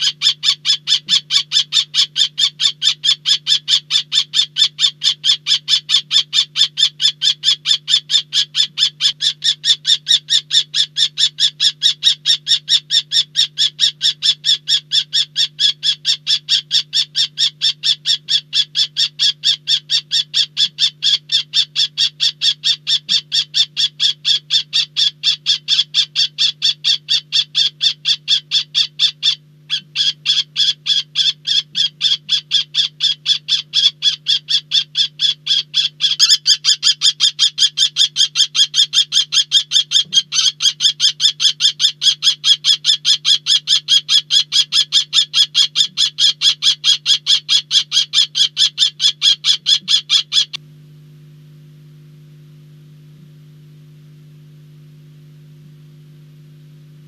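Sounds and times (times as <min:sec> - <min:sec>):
kestrel shrill calls: 0:00.0 - 0:50.6
low electrical hum: 0:00.0 - 0:57.0.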